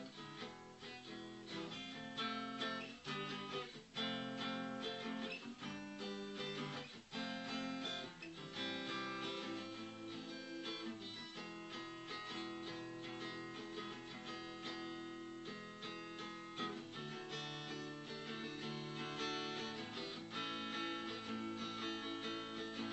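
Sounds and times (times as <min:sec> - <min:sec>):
acoustic guitar strumming chords: 0:00.0 - 0:22.9.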